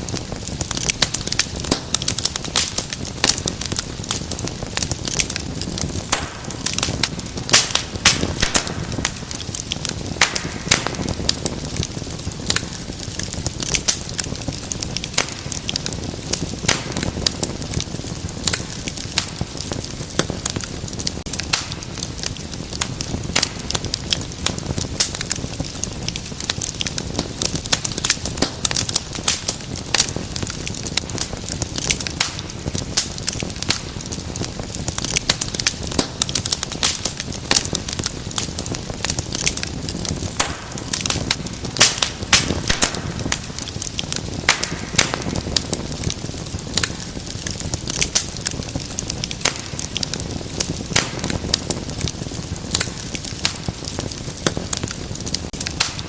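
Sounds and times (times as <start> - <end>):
low rumble of flame: 0.0 - 56.0
wood fire crackling: 0.0 - 56.0.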